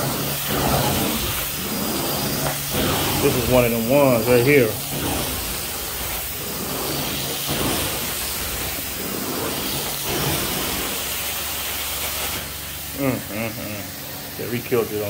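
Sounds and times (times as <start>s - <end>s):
carpet cleaning machine hissing: 0.0s - 15.0s.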